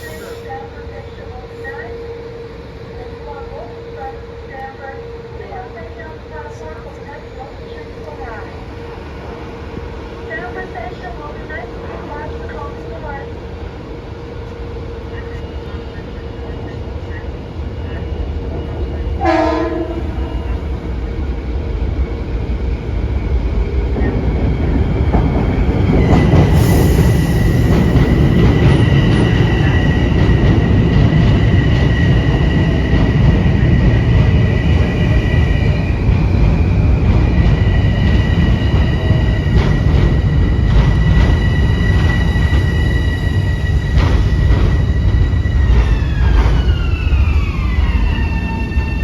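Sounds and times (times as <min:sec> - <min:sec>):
train rumbling on rails: 0:00.0 - 0:49.0.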